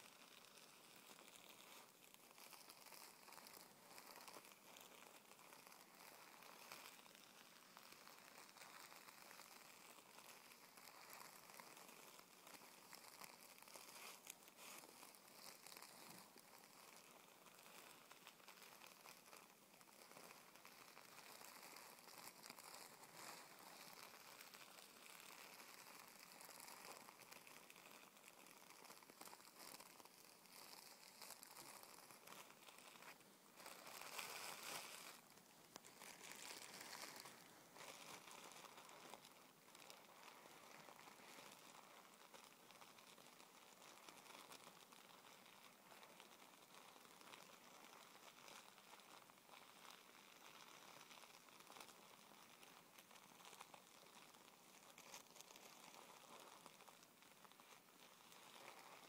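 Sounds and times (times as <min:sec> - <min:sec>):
fingers crinkling tissue paper: 0:00.0 - 0:59.0.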